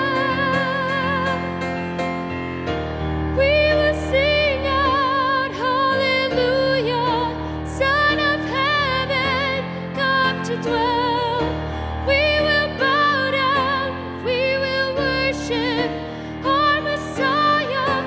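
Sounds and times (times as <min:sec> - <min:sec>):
woman singing with vibrato: 0:00.0 - 0:01.5, 0:03.3 - 0:18.0
instrumental accompaniment: 0:00.0 - 0:18.0.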